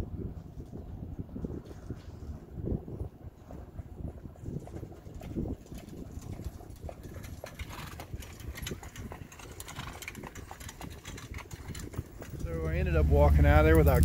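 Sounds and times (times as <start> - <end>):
horse hoofbeats on dirt: 0.1 - 14.0.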